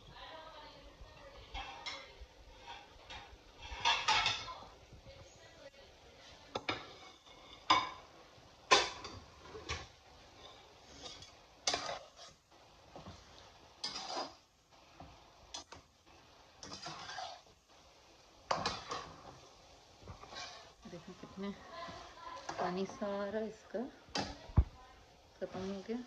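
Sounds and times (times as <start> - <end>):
metal spatula scraping a pan: 1.4 - 4.6, 6.1 - 17.8, 18.4 - 24.6.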